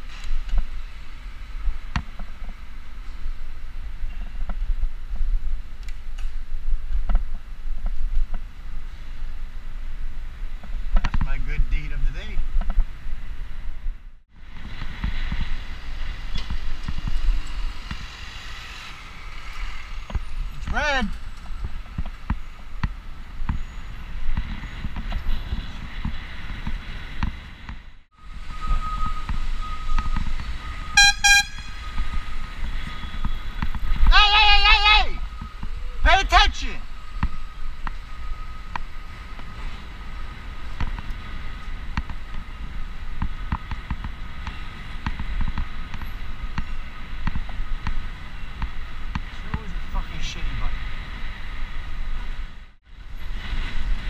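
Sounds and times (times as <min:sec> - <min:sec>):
bicycle riding rumble: 0:00.0 - 0:54.0
car traffic: 0:00.0 - 0:54.0.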